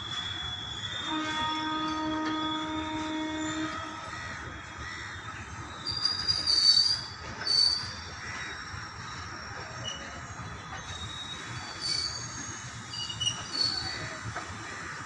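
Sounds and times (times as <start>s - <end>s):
train wheels squealing: 0.0s - 4.2s, 5.1s - 14.5s
freight train wagons rumbling: 0.0s - 15.0s.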